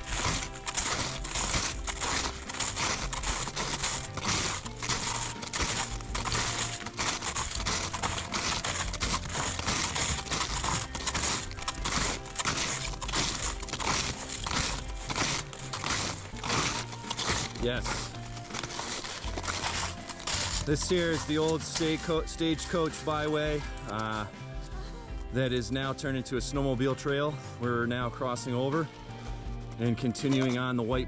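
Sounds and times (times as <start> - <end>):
background music: 0.0 - 31.0
snowshoe footsteps crunching snow: 0.0 - 31.0.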